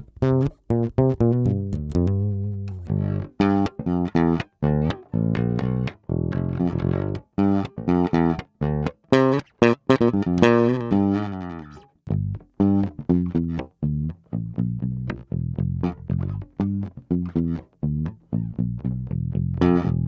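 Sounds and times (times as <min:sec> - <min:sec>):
bass ukulele notes plucked: 0:00.0 - 0:20.0
electric bass guitar plucked: 0:00.0 - 0:20.0.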